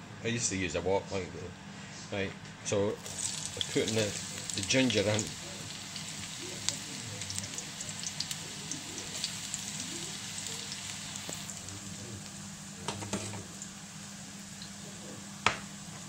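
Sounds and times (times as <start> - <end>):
ginger sizzling in oil: 3.0 - 16.0.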